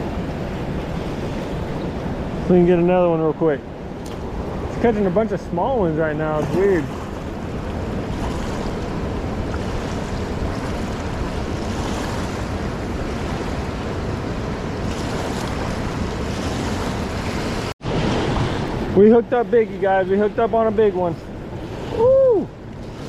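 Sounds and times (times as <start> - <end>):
wind on microphone: 0.0 - 19.0
river rushing: 0.0 - 23.0.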